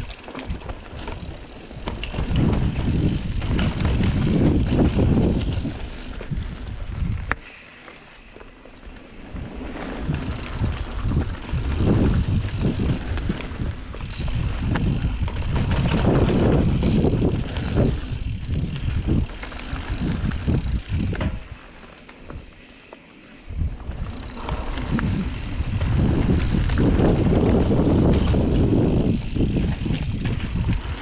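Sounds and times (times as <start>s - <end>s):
wind buffeting microphone: 0.0s - 7.4s, 9.2s - 21.6s, 23.4s - 31.0s
bike tyres rattling over dirt: 0.0s - 31.0s.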